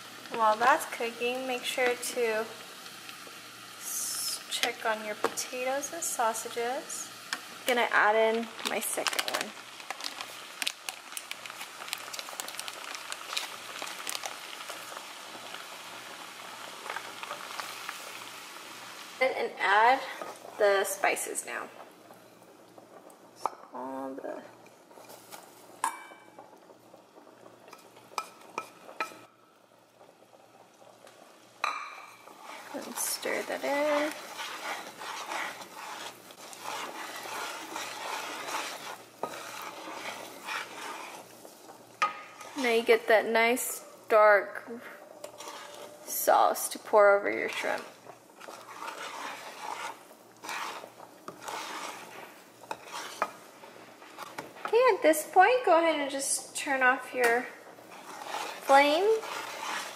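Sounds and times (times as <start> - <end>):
butter sizzling in a frying pan: 0.0 - 59.9
wooden spatula stirring: 4.6 - 18.4, 19.6 - 23.2, 27.6 - 29.3, 30.0 - 44.1, 44.7 - 59.9.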